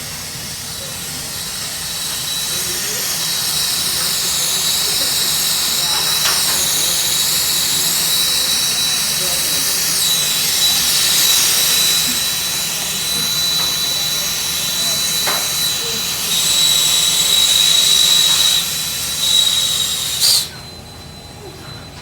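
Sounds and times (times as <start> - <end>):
gas torch flame hissing: 0.0 - 20.8.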